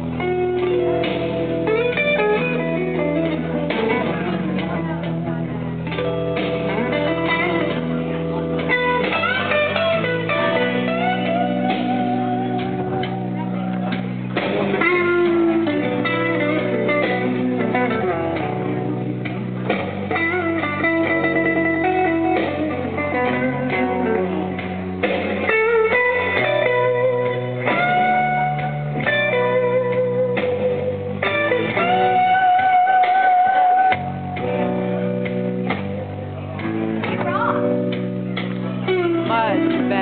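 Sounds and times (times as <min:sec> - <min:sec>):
bass line: 0:00.0 - 0:40.0
blues guitar solo: 0:00.0 - 0:40.0.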